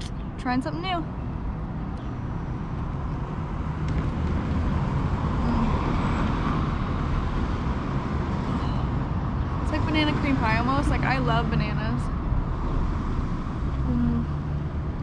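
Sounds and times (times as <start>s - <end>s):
cars driving past: 1.1s - 15.0s.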